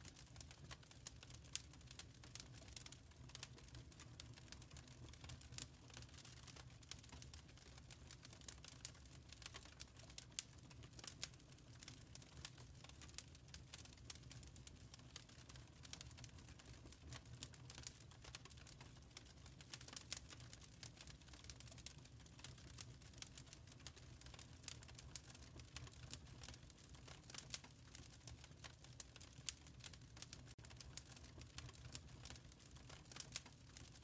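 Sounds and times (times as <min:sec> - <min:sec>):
fire crackling in fireplace: 0:00.0 - 0:34.0.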